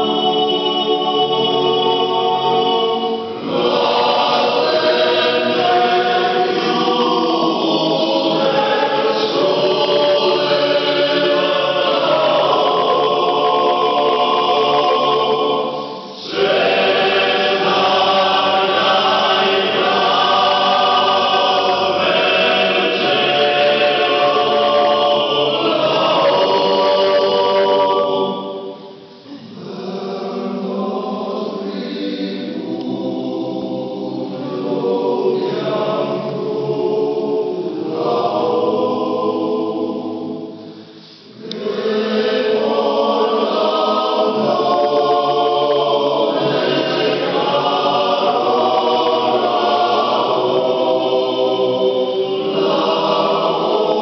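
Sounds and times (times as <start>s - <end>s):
male choir singing: 0.0s - 54.0s.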